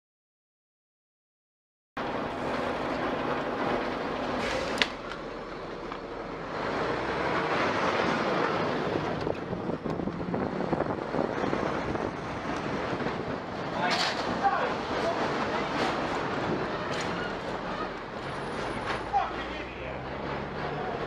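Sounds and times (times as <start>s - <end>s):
vehicle road and engine rumble: 2.0s - 21.0s.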